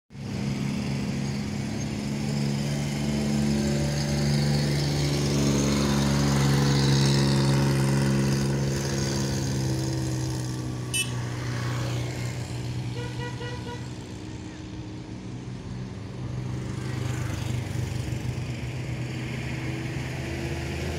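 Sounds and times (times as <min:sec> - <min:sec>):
heavy vehicle engine running: 0:00.2 - 0:20.9.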